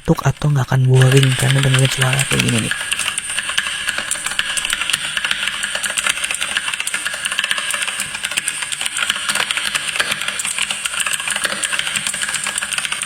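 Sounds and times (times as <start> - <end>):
mechanical keyboard typing: 0.8 - 13.0.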